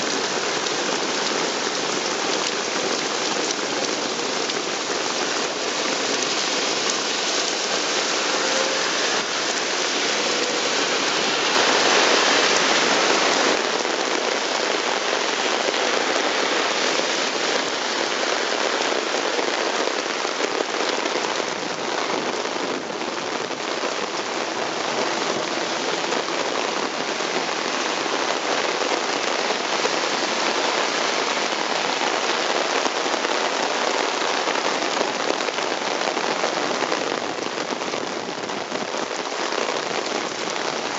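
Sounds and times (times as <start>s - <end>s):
heavy rain hitting ground: 0.0s - 40.9s.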